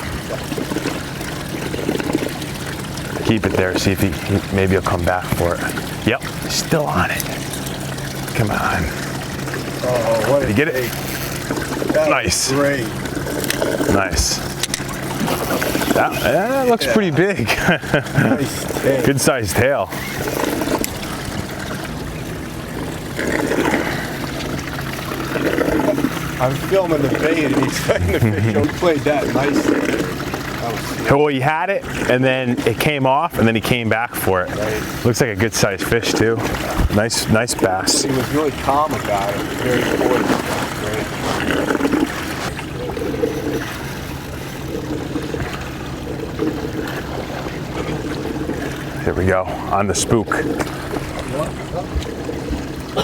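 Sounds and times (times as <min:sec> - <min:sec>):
low steady hum: 0:00.0 - 0:53.0
water splashing and trickling: 0:00.0 - 0:53.0.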